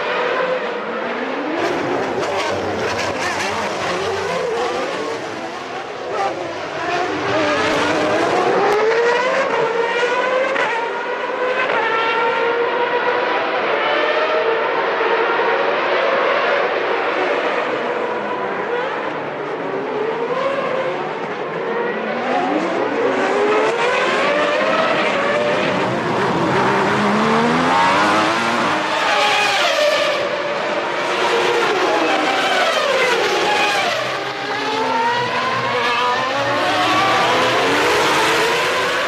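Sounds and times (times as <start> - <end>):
race car engines at high revs: 0.0 - 39.0.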